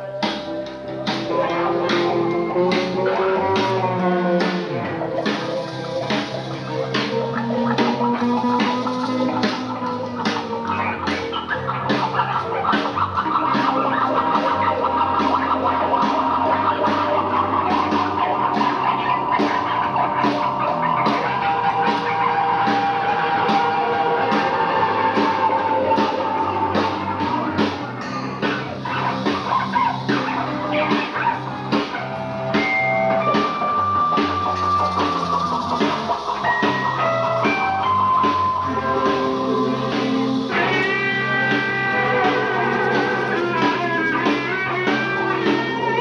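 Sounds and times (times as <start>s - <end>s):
bass line: 0.0s - 46.0s
drum kit steady beat: 0.0s - 46.0s
guitar long held notes: 0.0s - 46.0s.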